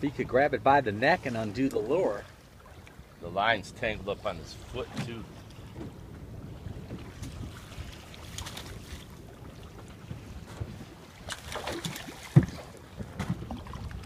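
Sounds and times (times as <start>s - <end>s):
water against boat: 0.0s - 14.0s
wind buffeting microphone: 0.0s - 14.0s.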